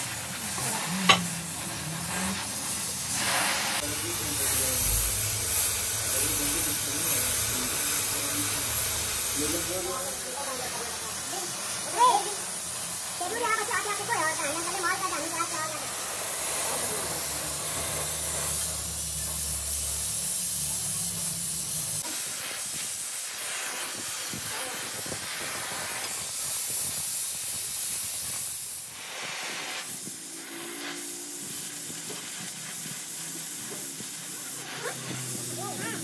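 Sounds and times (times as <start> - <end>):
welding torch flame hissing: 0.0 - 36.0.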